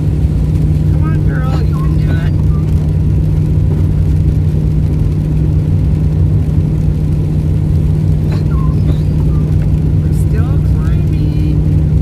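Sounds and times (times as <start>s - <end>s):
car engine working hard: 0.0s - 12.0s
road noise: 0.0s - 12.0s.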